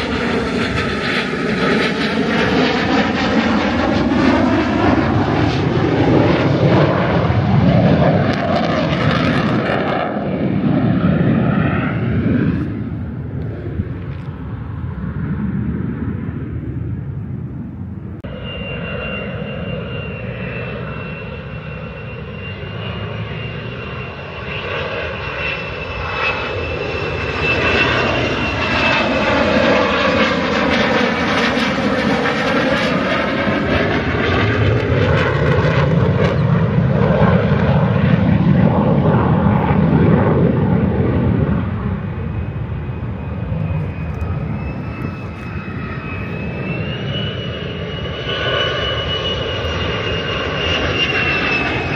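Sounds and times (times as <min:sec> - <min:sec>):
fighter jet flying overhead: 0:00.0 - 0:51.9.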